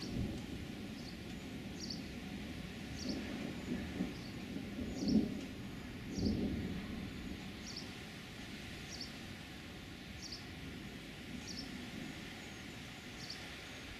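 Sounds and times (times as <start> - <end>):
low rumble of thunder: 0.0 - 13.4
steady outdoor hiss: 0.0 - 13.9.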